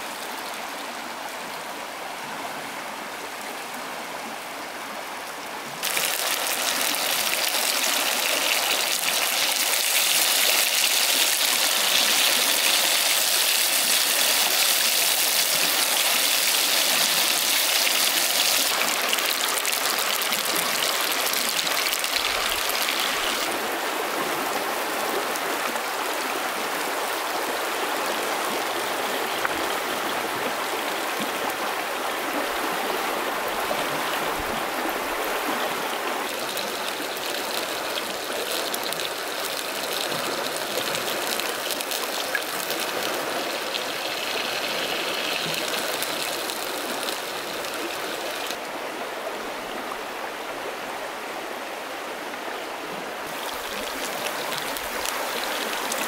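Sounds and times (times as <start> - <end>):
stream rippling over rocks: 0.0 - 56.0.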